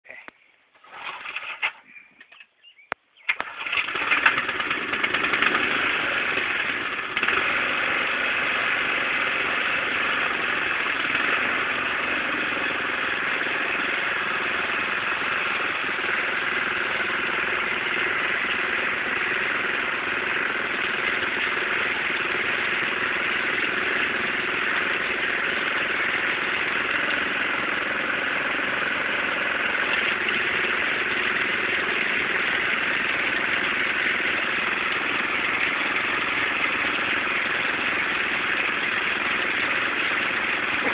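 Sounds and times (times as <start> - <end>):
small engine starting and idling: 0.7 - 2.4, 3.2 - 40.9.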